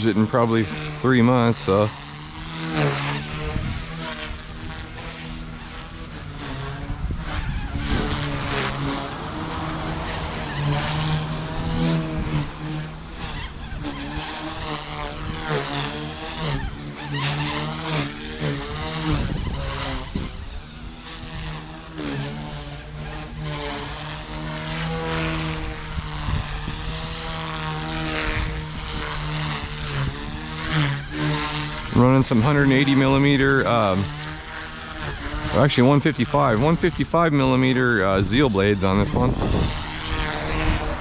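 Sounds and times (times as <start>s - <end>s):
rc helicopter motor whine: 0.0s - 41.0s
wind buffeting microphone: 0.7s - 41.0s.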